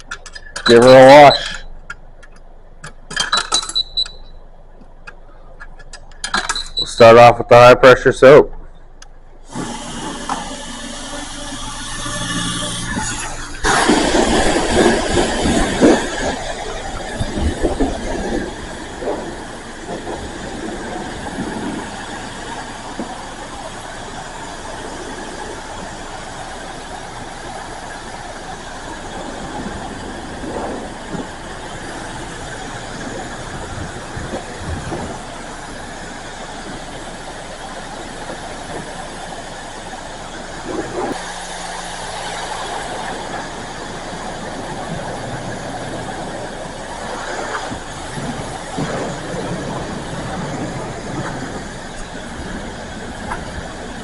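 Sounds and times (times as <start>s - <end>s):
steady low hum: 0.0s - 54.0s
pressure washer water spray: 9.4s - 54.0s.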